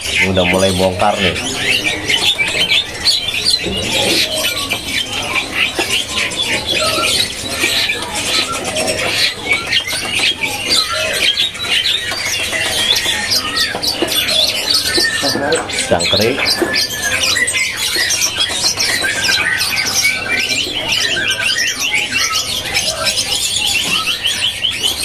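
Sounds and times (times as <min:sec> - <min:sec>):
shrike singing chirps and trills: 0:00.0 - 0:25.0.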